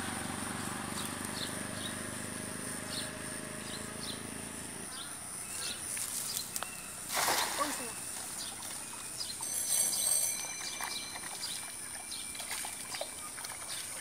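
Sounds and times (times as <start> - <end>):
high insect drone: 0.0 - 14.0
small birds chirping: 0.0 - 14.0.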